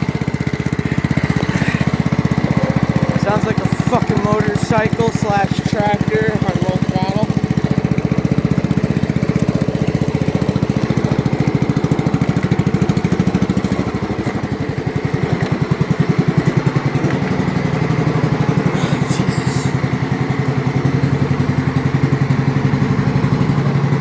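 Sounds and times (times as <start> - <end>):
small engine running rough: 0.0 - 24.0.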